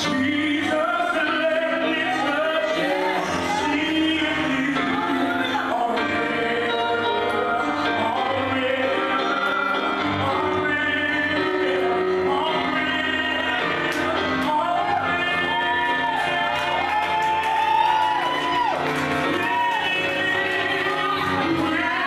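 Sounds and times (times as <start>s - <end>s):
low musical accompaniment: 0.0s - 22.0s
person singing gospel song: 0.0s - 22.0s.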